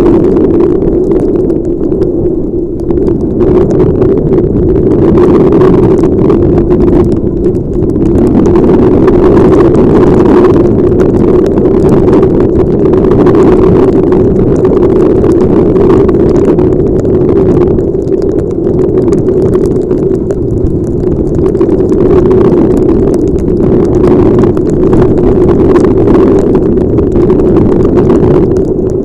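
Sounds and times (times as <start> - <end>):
wind buffeting helmet microphone: 0.0 - 29.0.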